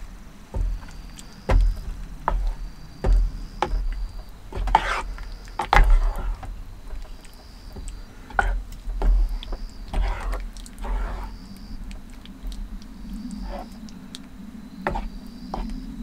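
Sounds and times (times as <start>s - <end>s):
wet scraping of stew: 0.5s - 14.3s, 14.9s - 16.0s.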